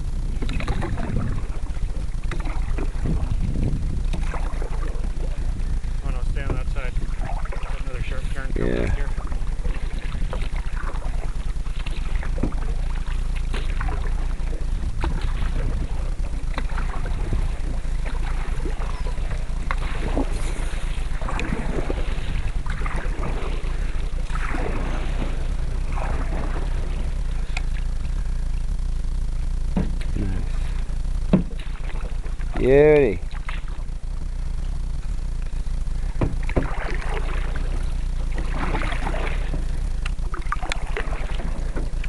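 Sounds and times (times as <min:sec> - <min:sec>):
paddles splashing through water: 0:00.0 - 0:28.7, 0:29.7 - 0:34.0, 0:35.4 - 0:42.0
wind rumble on microphone: 0:00.0 - 0:42.0.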